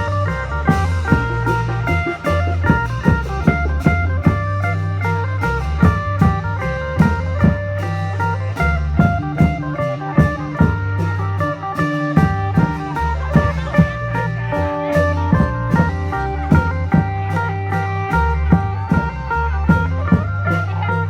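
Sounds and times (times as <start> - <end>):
long drum beats: 0.0 - 21.0
sustained bass notes: 0.0 - 21.0.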